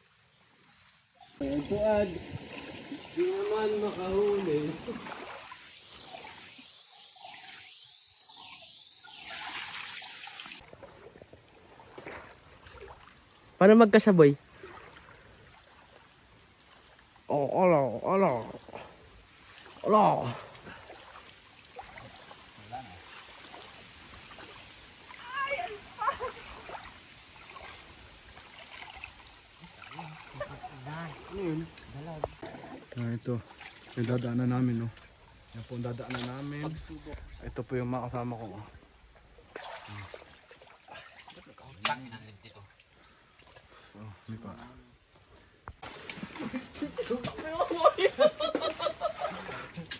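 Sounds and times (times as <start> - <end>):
stream water trickling: 0.0 - 49.9
feet splashing in water: 1.4 - 6.9, 9.3 - 13.5, 14.4 - 17.4, 18.1 - 37.3, 39.2 - 43.8, 45.8 - 49.9.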